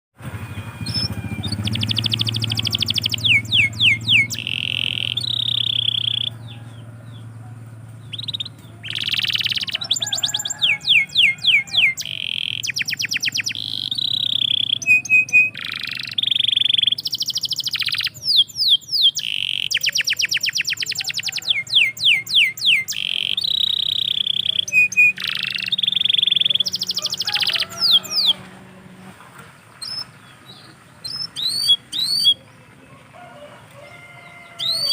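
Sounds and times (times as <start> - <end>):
canary singing: 0.2 - 29.0, 29.6 - 34.9.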